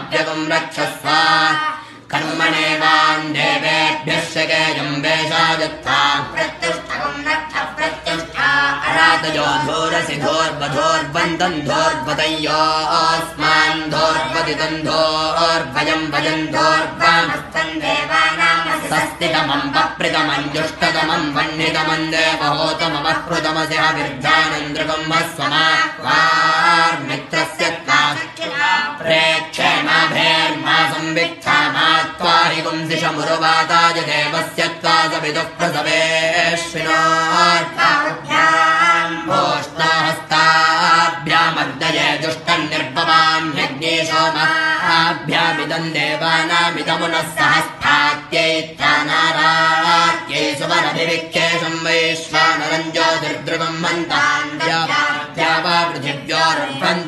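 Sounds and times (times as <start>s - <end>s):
boys chanting together: 0.0s - 57.0s.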